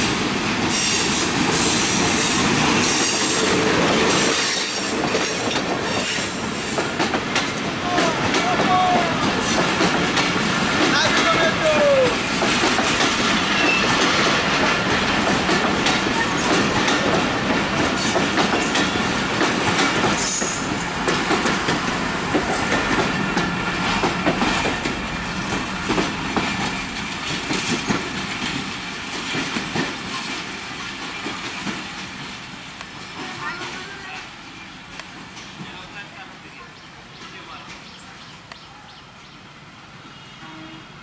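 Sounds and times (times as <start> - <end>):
train wheels clattering: 0.0 - 36.0.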